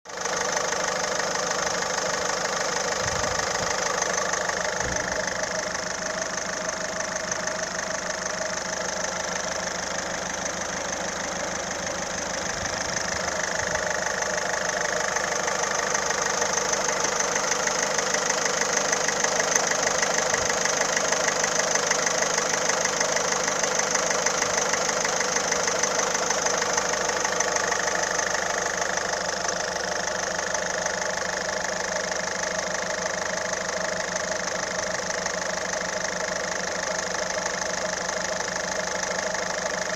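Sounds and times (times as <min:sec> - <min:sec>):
diesel engine idling: 0:00.1 - 0:39.9.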